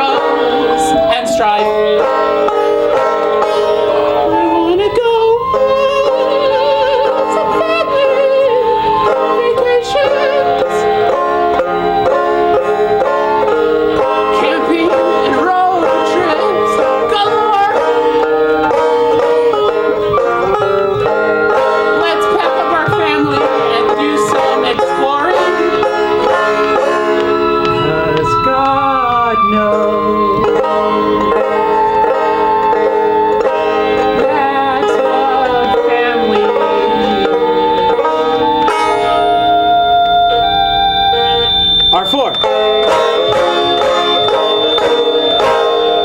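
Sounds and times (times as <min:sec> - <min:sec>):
person singing: 0:00.0 - 0:46.0
plucked string instruments: 0:00.0 - 0:46.0.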